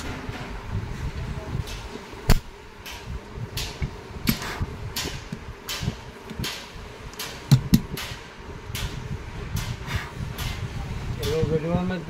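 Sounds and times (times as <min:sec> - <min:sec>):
steady fan hum: 0:00.0 - 0:12.0.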